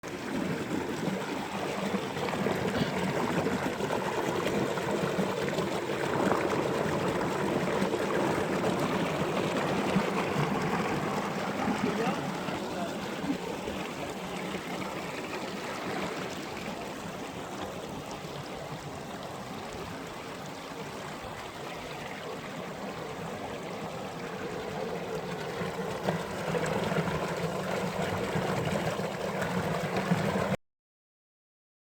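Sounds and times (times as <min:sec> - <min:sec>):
mountain stream running: 0:00.0 - 0:30.6.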